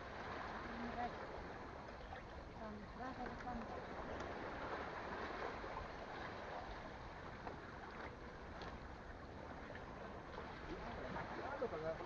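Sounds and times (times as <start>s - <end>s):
sea water: 0.0s - 12.0s
wind: 0.0s - 12.0s.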